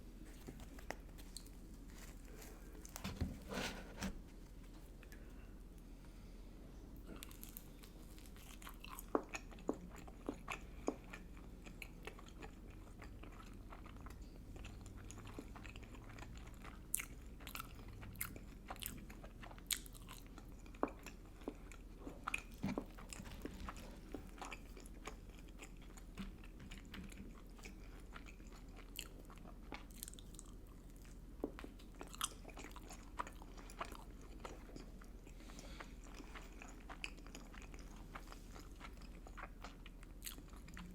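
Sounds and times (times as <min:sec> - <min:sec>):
person chewing crunchy food: 0:07.0 - 0:40.9.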